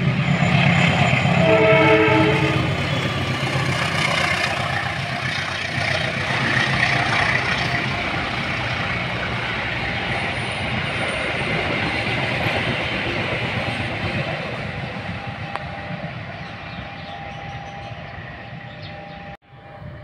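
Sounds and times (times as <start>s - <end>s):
locomotive engine rumble: 0.0s - 20.0s
train wheels rushing on rail: 0.0s - 20.0s.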